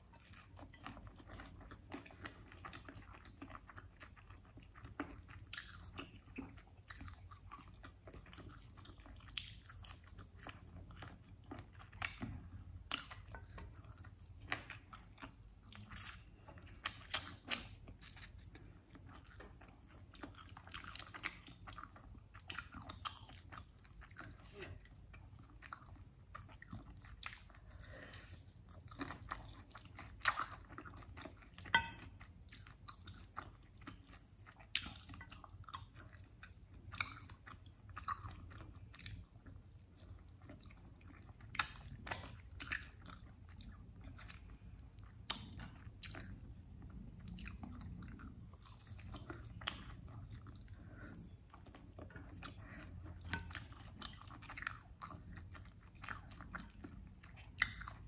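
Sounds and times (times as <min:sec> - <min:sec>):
chewing and biting: 0:00.0 - 0:58.0.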